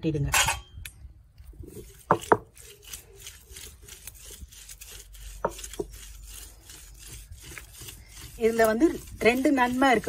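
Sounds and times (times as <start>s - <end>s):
grinding stone rasping on stone: 1.6s - 10.0s.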